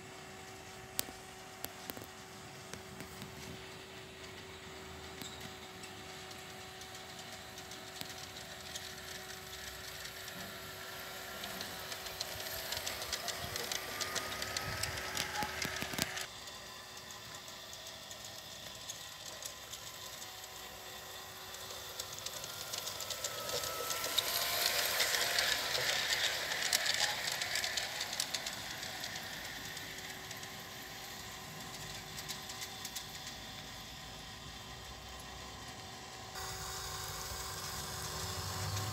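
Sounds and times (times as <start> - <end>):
wheels clicking over rails: 0.5 - 38.9
small electric motor whine: 0.6 - 38.9.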